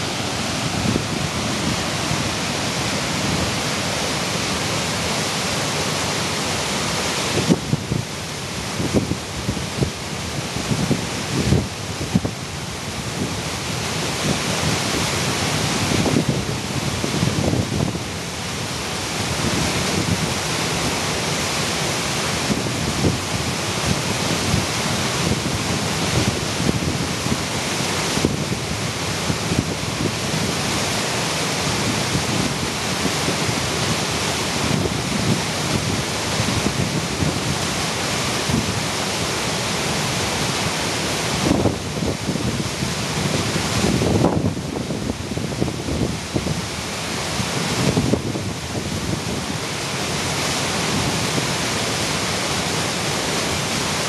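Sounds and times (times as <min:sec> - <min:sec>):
wind buffeting microphone: 0:00.0 - 0:06.4, 0:07.2 - 0:54.0
steady rushing hiss: 0:00.0 - 0:54.0.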